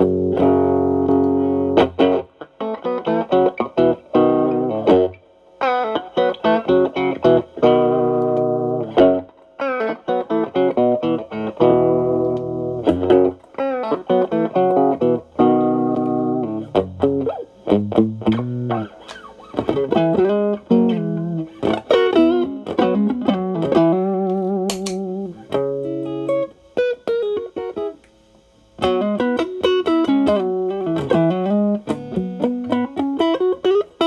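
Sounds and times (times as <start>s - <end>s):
overdriven electric guitar: 0.0s - 34.0s.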